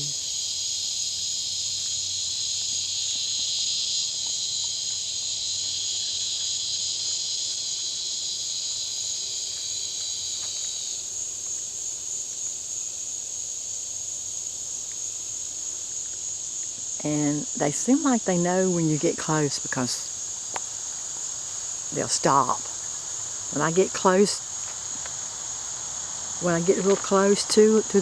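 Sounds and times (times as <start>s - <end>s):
high-pitched insect chorus: 0.0s - 28.0s
lower-pitched insect chorus: 0.0s - 28.0s.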